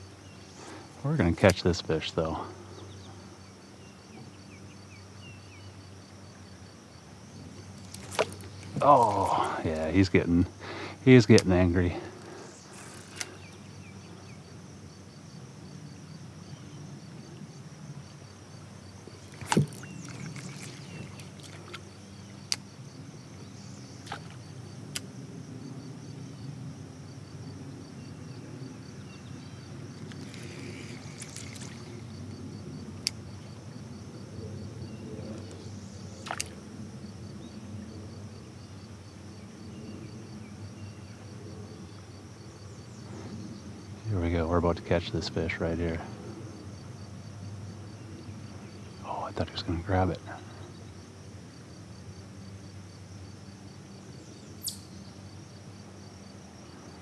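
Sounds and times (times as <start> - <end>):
faint high insect chirp: 0.0 - 57.0.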